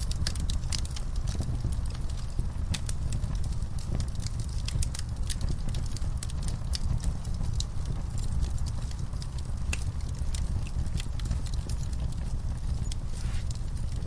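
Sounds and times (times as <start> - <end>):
log fire crackling: 0.0 - 14.0
low rumble of flame: 0.0 - 14.0.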